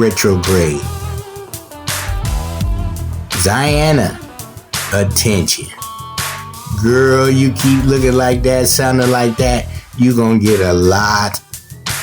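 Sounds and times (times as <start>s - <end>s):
song with bass drums and guitar: 0.0s - 12.0s.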